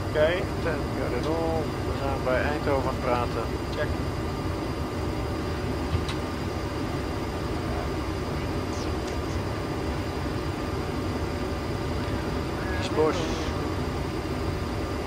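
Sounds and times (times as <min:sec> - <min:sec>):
airflow and engine noise in cockpit: 0:00.0 - 0:15.0.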